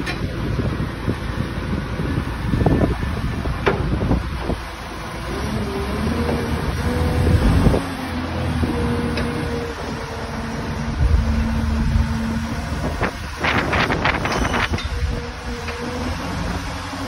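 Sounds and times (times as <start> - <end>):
faint engine whine: 0.0 - 17.0
tractor engine running: 0.0 - 17.0.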